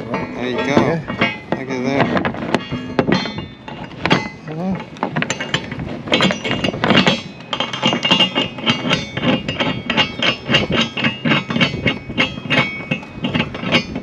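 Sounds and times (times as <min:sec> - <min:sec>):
metal-on-metal clinking: 0:00.0 - 0:14.0.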